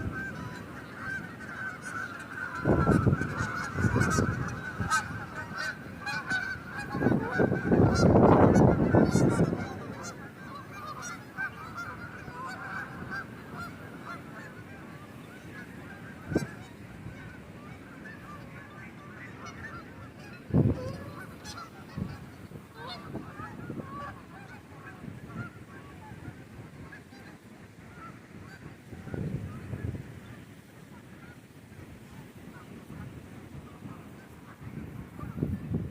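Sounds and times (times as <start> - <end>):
geese honking: 0.0 - 35.8.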